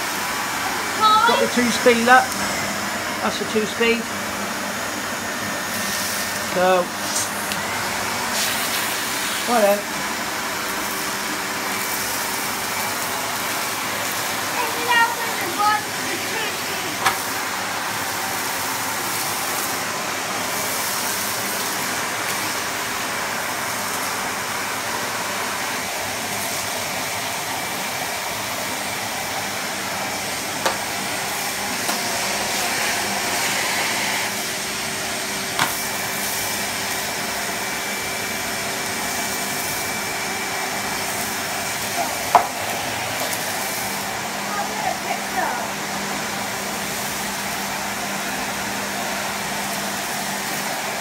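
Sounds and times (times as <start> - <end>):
vacuum cleaner on carpet: 0.0 - 51.0.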